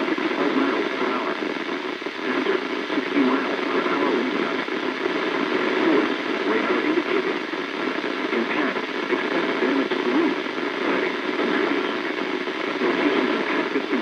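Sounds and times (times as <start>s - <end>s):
faint voice on radio: 0.0s - 14.0s
radio static hiss: 0.0s - 14.0s.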